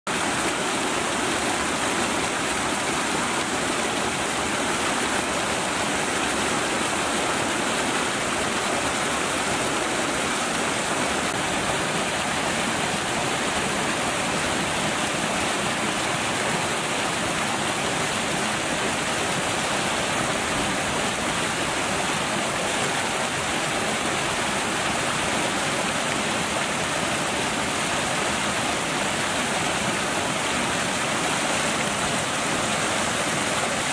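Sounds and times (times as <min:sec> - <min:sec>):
water rushing over waterfall: 0:00.1 - 0:33.9.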